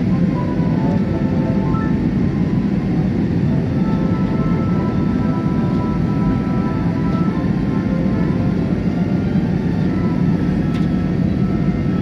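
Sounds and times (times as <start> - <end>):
airliner cabin rumble: 0.0 - 12.0
soft background music: 0.0 - 12.0.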